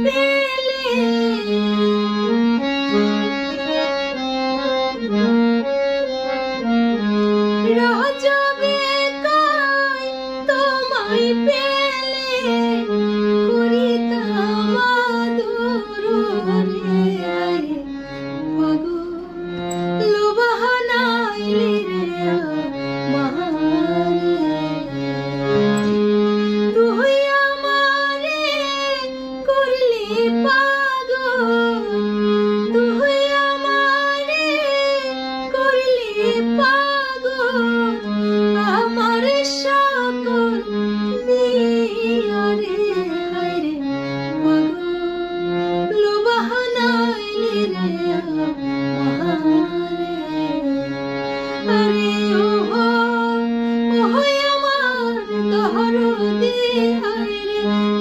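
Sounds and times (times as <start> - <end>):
woman singing: 0.0 - 4.0, 7.5 - 24.9, 26.6 - 50.8, 51.6 - 58.0
harmonium notes: 0.0 - 58.0.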